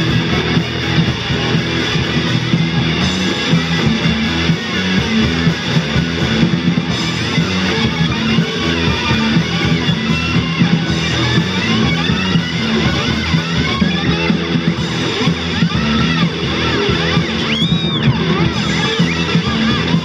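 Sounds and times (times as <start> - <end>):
rock band playing: 0.0 - 20.0
sliding guitar notes: 0.0 - 20.0.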